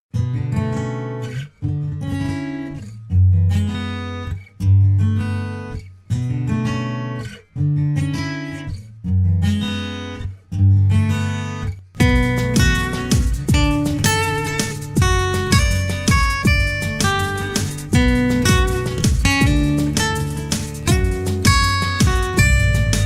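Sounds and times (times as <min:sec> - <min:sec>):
acoustic guitar strumming chords: 0:00.2 - 0:23.0.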